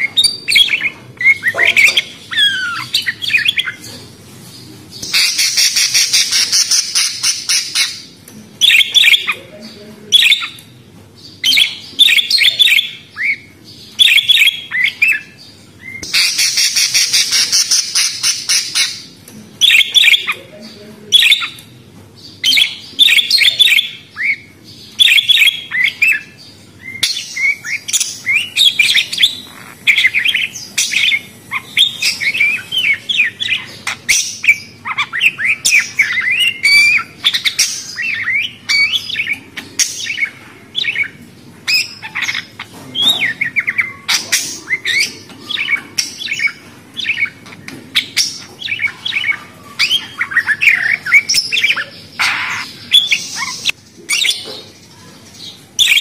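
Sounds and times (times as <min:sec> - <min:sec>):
parrots chattering: 0:00.0 - 0:56.0.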